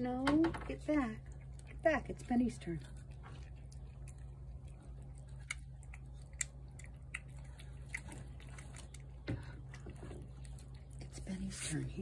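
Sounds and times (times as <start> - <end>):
steady low hum: 0.0 - 12.0
cat chewing wet food: 0.7 - 12.0.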